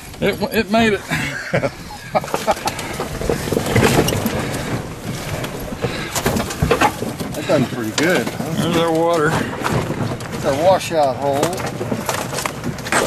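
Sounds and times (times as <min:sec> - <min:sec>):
tyres rolling over rock and gravel: 0:00.0 - 0:13.0
vehicle body knocks and rattles: 0:01.5 - 0:13.0.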